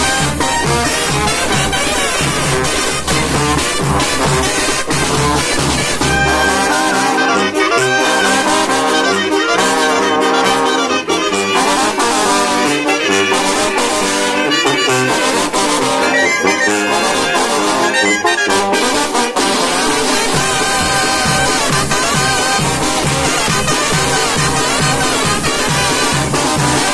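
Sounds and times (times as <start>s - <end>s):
brass band playing: 0.0s - 26.9s
trombones and trumpets: 0.0s - 26.9s.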